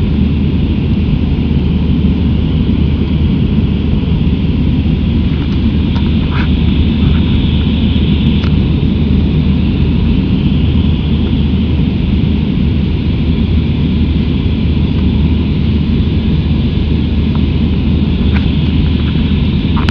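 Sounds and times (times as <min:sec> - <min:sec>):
jet engine rumble: 0:00.0 - 0:19.9
constant cabin hiss: 0:00.3 - 0:19.9.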